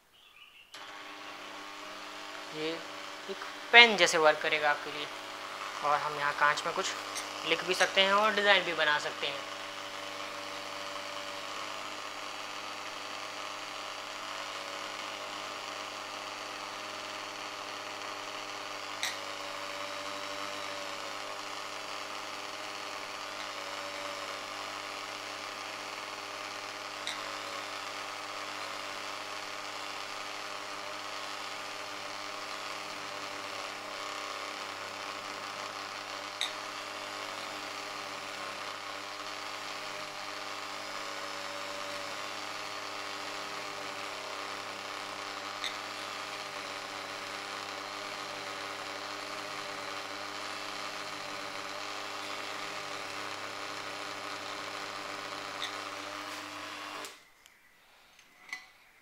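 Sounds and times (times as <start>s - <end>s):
die grinder motor whining: 0.8s - 57.3s
engraving bit scribing glass: 2.5s - 54.0s, 54.6s - 57.2s.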